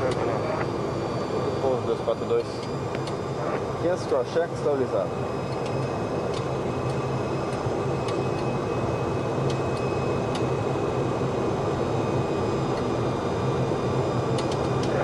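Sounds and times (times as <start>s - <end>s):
airflow and engine roar: 0.0s - 15.0s
thin steady whines: 0.0s - 15.0s.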